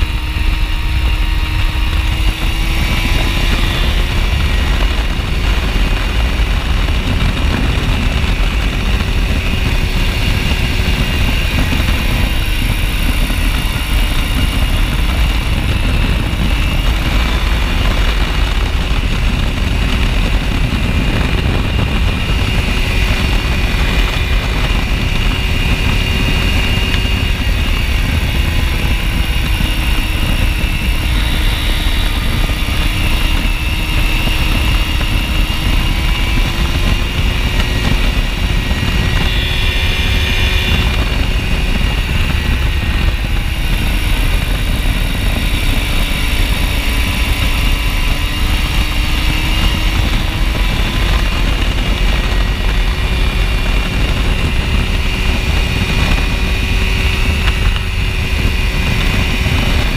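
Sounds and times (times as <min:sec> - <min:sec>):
aircraft engine and propeller: 0:00.0 - 0:59.9
wind rush on microphone: 0:00.0 - 0:59.9.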